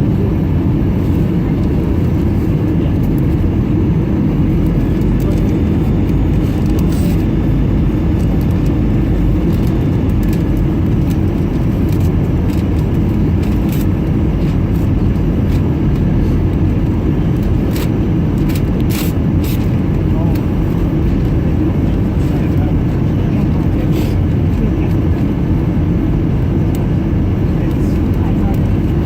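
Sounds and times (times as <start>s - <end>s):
airliner cabin engine and airflow: 0.0s - 29.0s.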